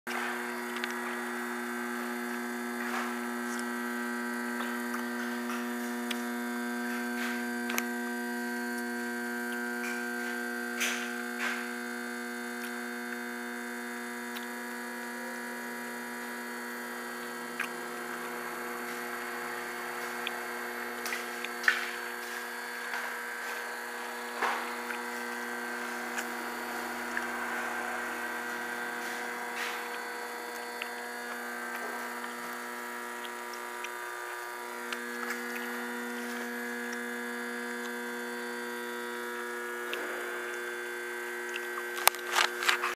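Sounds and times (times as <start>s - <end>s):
electrical hum: 0.1s - 42.9s.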